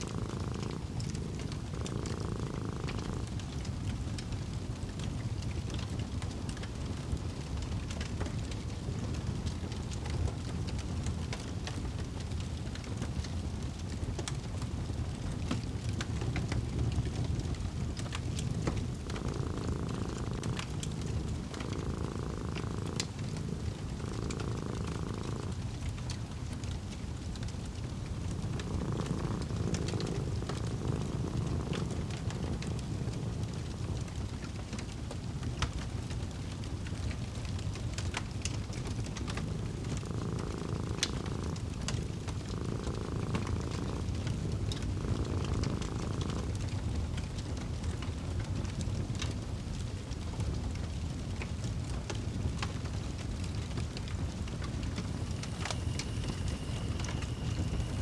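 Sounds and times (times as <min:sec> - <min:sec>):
cat purring: 0:00.0 - 0:58.0
fireplace crackling: 0:00.0 - 0:58.0.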